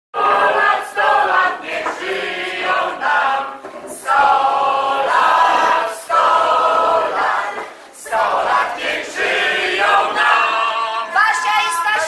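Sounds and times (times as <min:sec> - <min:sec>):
group singing in unison: 0:00.1 - 0:11.5.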